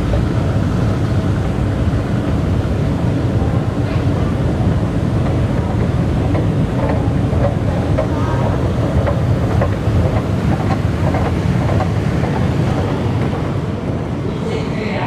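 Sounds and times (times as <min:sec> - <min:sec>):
metro station rumble and hum: 0:00.0 - 0:15.0.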